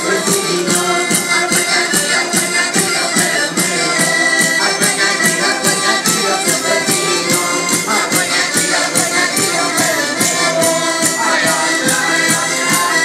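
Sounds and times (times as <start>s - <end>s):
folk dance music: 0.0s - 13.0s.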